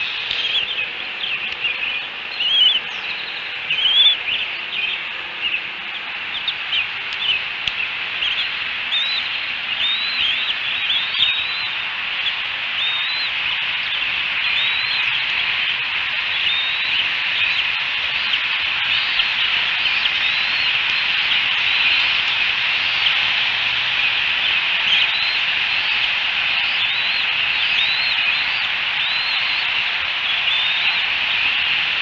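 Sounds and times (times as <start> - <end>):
birds chirping: 0.0 - 32.0
steady high outdoor hiss: 0.0 - 32.0.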